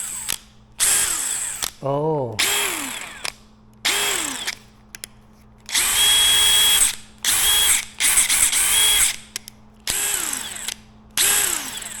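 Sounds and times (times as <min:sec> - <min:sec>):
cordless impact wrench bursts: 0:00.0 - 0:01.8, 0:02.4 - 0:04.6, 0:05.7 - 0:12.0.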